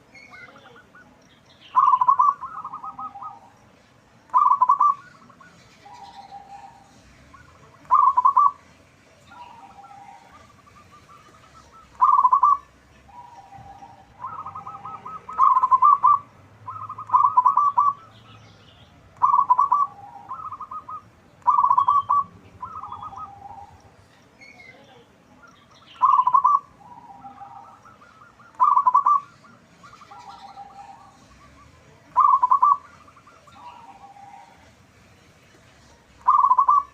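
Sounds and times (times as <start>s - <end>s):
dove cooing: 0.0s - 3.6s, 4.3s - 8.7s, 9.3s - 18.4s, 19.2s - 24.0s, 25.4s - 34.8s, 35.9s - 36.9s.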